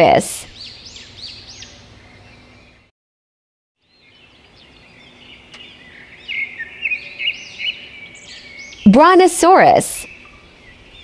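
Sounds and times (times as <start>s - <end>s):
birds chirping: 0.0s - 2.9s, 3.8s - 11.0s.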